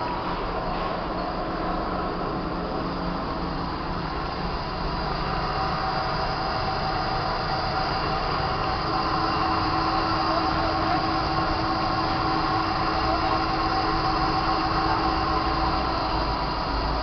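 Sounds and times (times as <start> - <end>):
grinder machine humming: 2.0 - 17.0.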